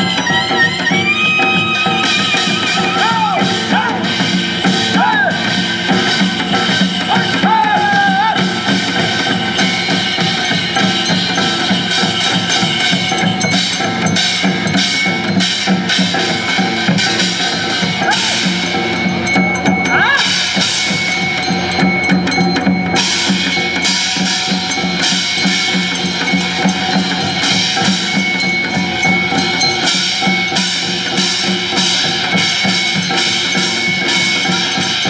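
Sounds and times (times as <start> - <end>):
drums and percussion: 0.0 - 35.0.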